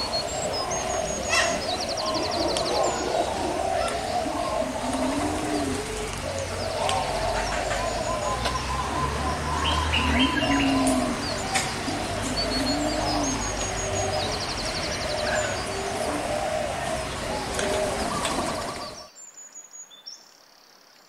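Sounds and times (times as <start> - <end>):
low arching bird calls: 0.0 - 19.8
higher bird chirps: 0.0 - 20.3.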